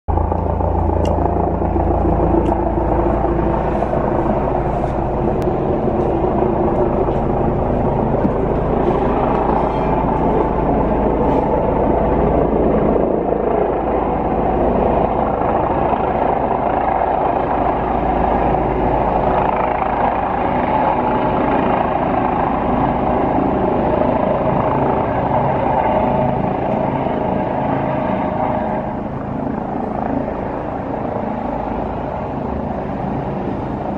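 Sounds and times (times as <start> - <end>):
helicopter rotor and engine: 0.1 - 33.9.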